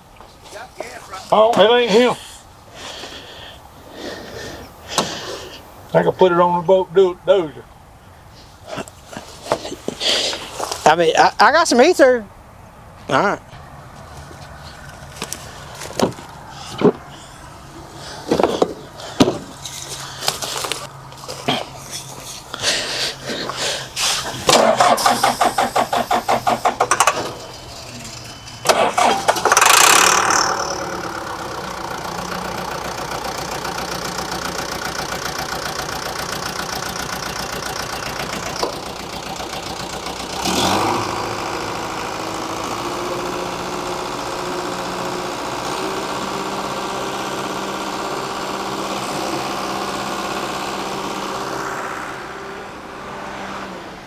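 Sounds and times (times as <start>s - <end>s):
diesel engine cranking and idling: 0.0s - 54.0s.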